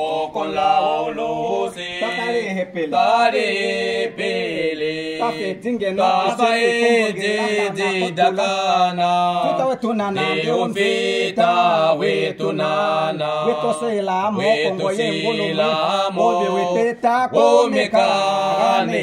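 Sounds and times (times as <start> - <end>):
men singing a hymn: 0.0 - 19.0.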